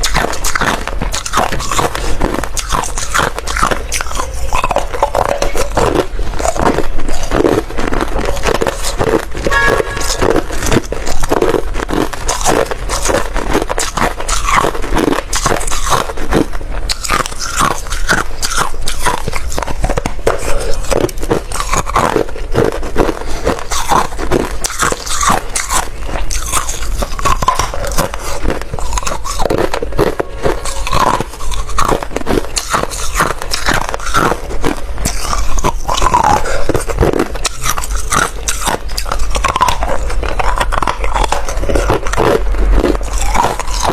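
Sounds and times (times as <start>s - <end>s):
ice being chewed crunching: 0.0s - 43.9s.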